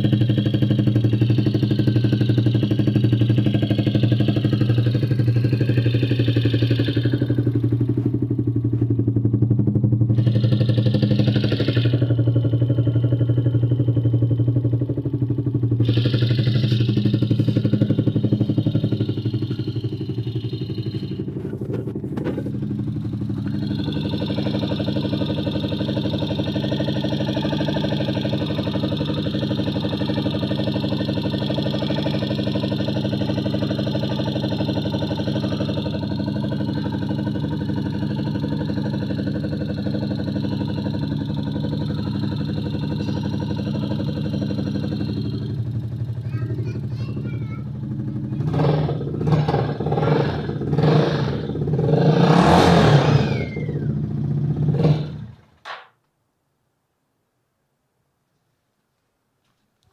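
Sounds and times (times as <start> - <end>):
repetitive engine ticking noise: 0.0 - 55.5
engine idling: 0.0 - 55.6.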